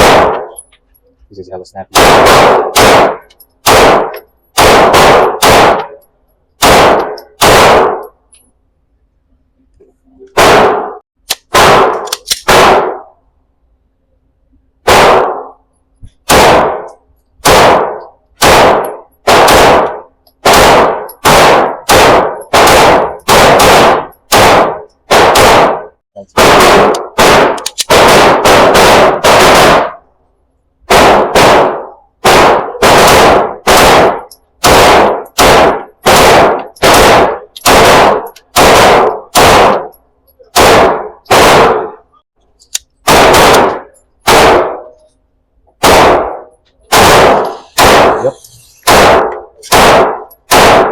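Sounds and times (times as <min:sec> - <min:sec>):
pistol shots: 0:00.0 - 0:00.6, 0:01.9 - 0:06.0, 0:06.6 - 0:08.2, 0:10.3 - 0:13.2, 0:14.8 - 0:15.6, 0:16.2 - 0:30.1, 0:30.9 - 0:42.2, 0:43.0 - 0:45.0, 0:45.8 - 0:50.9.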